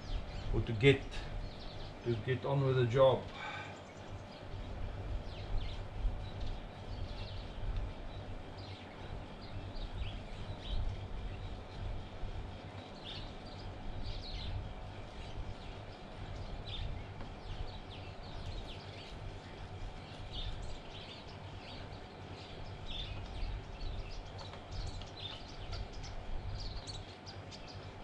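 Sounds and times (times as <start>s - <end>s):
low steady rumble: 0.0s - 28.0s
small birds chirping: 0.0s - 28.0s.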